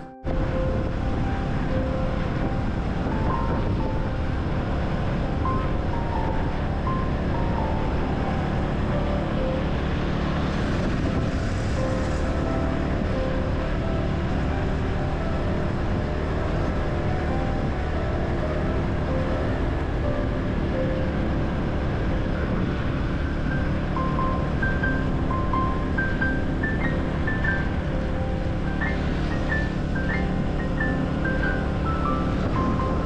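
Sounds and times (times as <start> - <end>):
melodic background music: 0.0 - 33.0
motorcycle engine and wind noise: 0.0 - 33.0.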